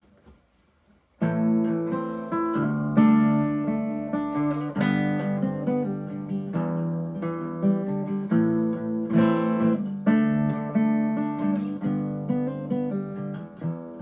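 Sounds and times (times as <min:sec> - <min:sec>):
fingerpicked acoustic guitar: 0:01.2 - 0:14.0.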